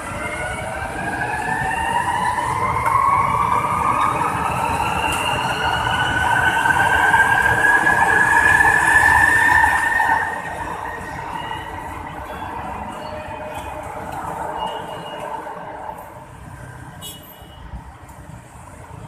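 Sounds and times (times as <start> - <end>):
electric train whine: 0.0 - 15.8.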